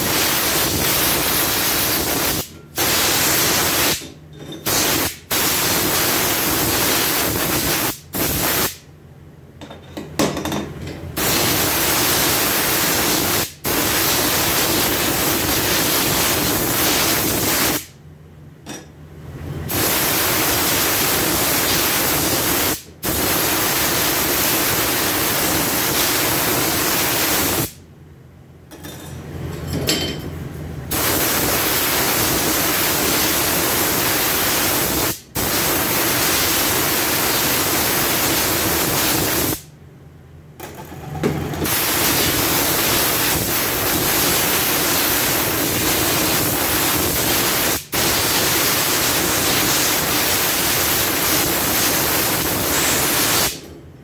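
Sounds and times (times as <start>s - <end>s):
spray gun hissing: 0.0s - 4.0s, 4.7s - 8.8s, 11.2s - 17.9s, 19.7s - 27.8s, 30.9s - 39.7s, 41.6s - 53.6s.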